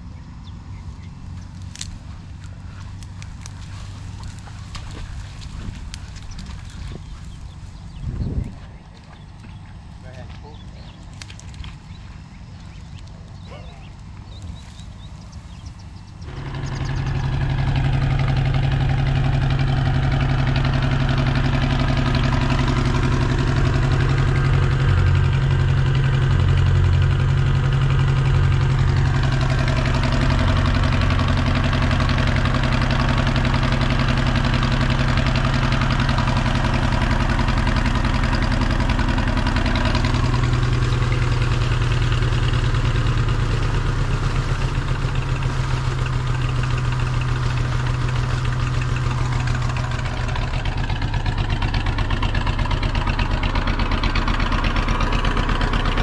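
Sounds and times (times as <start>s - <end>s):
engine driving a pump: 0.0s - 56.0s.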